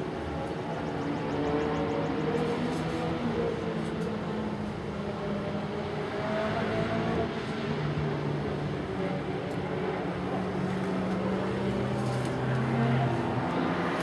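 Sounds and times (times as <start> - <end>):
car engines humming: 0.0 - 14.0.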